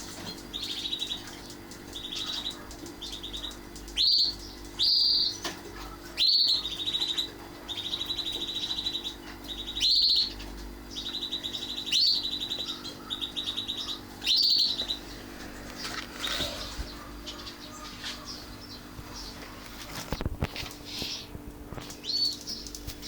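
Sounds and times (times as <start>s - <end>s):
canary calling and trilling: 0.0s - 19.4s, 22.0s - 22.8s
faint low hum: 0.0s - 23.0s.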